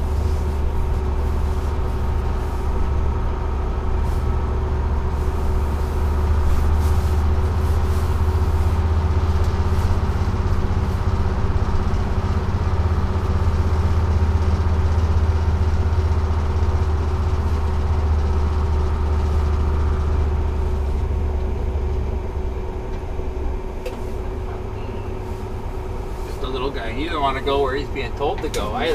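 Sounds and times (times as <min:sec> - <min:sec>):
bus engine low drone: 0:00.0 - 0:28.9
engine whine: 0:00.0 - 0:28.9.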